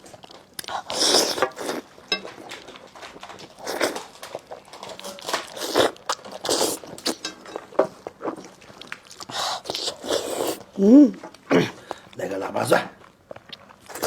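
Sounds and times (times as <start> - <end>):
wet chewing: 0.0 - 12.3, 12.9 - 14.0.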